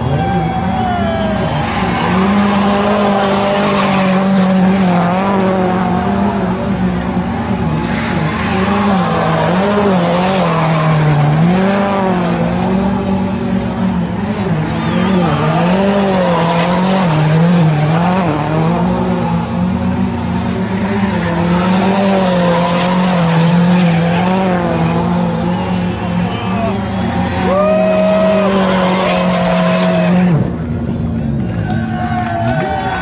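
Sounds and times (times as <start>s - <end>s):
car engine at high revs: 0.0s - 33.0s.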